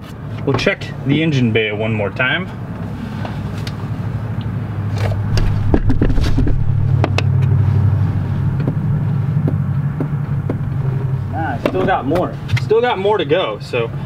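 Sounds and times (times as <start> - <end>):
car engine idling: 2.2 - 14.0.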